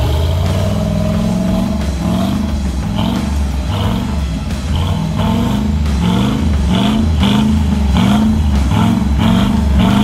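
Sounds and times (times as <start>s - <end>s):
engine revving: 0.0s - 10.0s.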